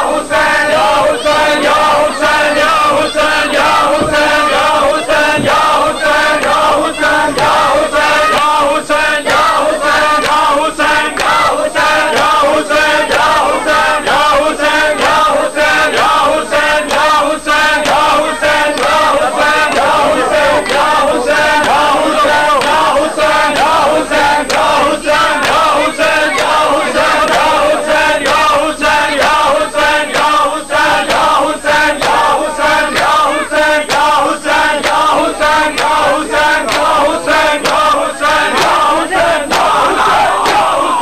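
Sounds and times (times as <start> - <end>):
men chanting together: 0.0 - 41.0
rhythmic chest-beating: 0.0 - 41.0.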